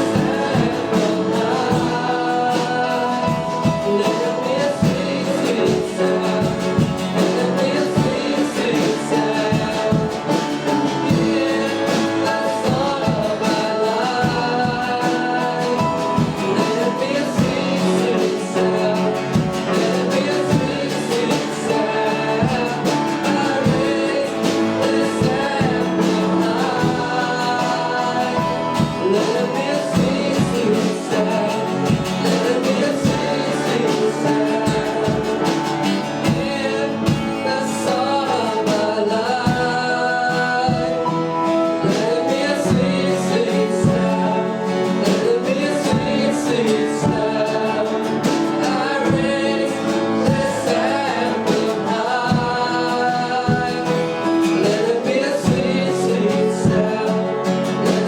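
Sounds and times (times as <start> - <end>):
guitar with steady beat: 0.0 - 58.0
voices singing: 0.0 - 58.0.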